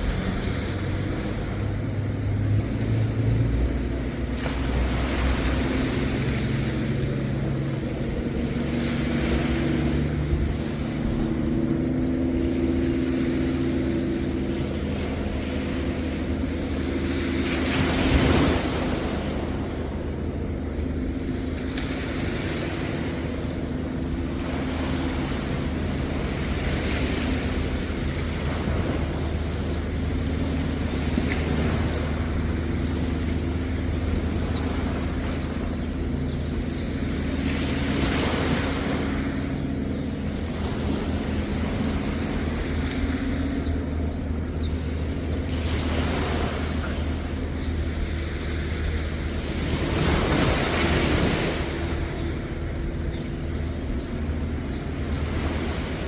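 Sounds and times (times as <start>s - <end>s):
low engine hum: 0.0s - 56.0s
sea waves breaking: 0.0s - 56.0s.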